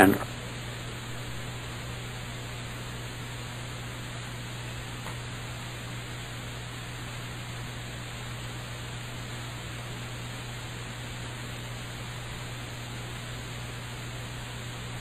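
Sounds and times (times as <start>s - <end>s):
low electrical hum: 0.0s - 15.0s
tape hiss: 0.0s - 15.0s.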